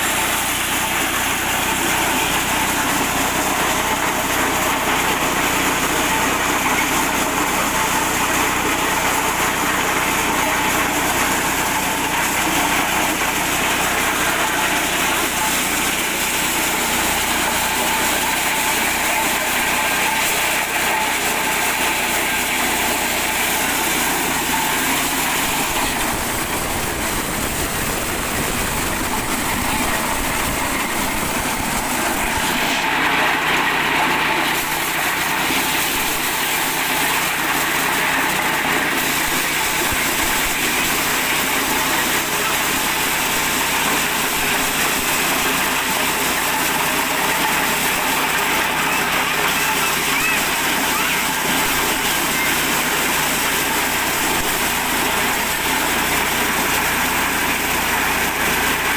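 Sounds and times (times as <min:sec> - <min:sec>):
small petrol engine running: 0:00.0 - 0:58.9.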